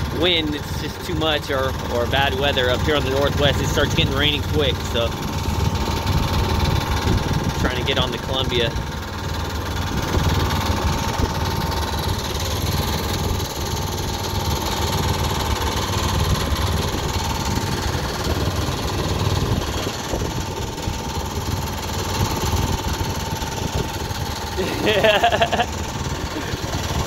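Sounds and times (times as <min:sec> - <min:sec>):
boat engine rumbling: 0:00.0 - 0:27.0.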